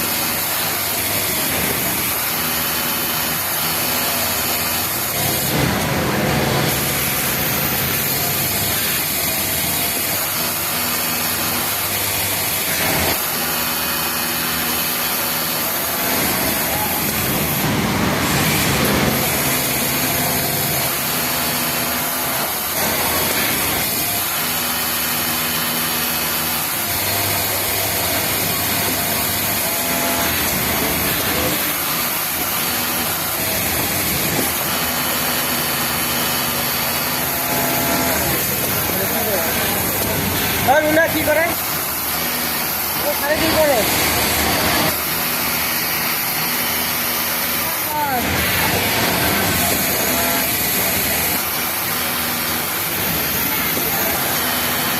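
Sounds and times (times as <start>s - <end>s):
overlock sewing machine running: 0.0s - 54.9s
steady background noise: 0.0s - 54.9s.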